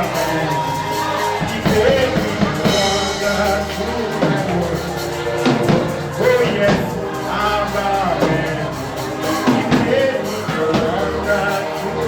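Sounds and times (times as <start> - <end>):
gospel band with drum kit: 0.0 - 12.0
person singing long notes: 0.0 - 12.0.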